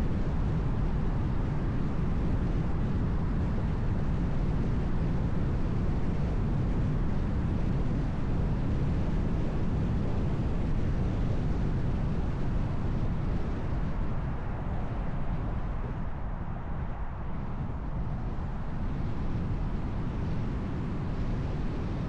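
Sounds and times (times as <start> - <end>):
car road and tyre noise: 0.0 - 22.0.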